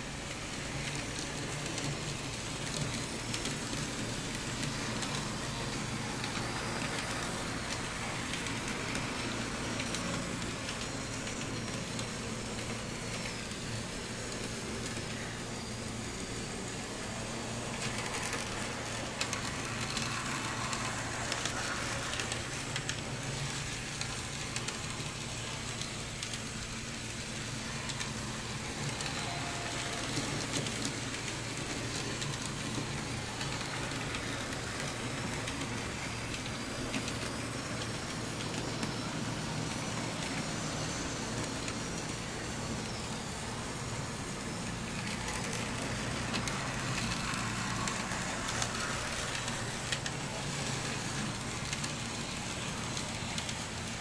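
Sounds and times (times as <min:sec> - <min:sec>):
small electric motors whirring: 0:00.0 - 0:54.0
wheels clicking on rails: 0:00.0 - 0:54.0.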